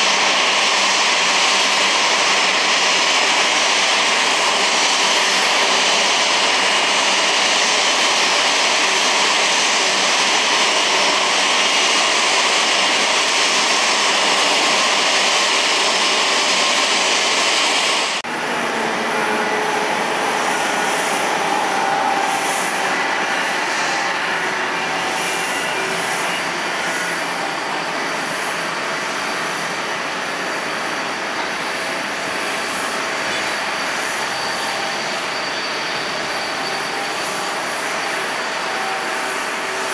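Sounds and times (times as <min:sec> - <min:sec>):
faint jet whine: 0:00.0 - 0:39.9
jet engines running: 0:00.0 - 0:39.9.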